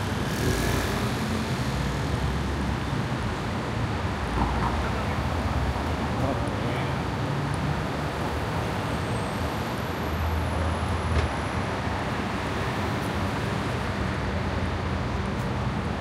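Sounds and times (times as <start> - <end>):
road noise from passing vehicles: 0.0 - 16.0.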